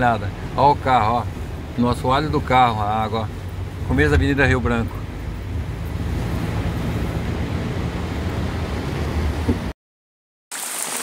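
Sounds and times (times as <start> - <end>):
rain on a surface: 0.0 - 9.5, 10.5 - 11.0
water washing around car: 0.0 - 9.7, 10.5 - 11.0
car engine and road noise: 0.0 - 9.8.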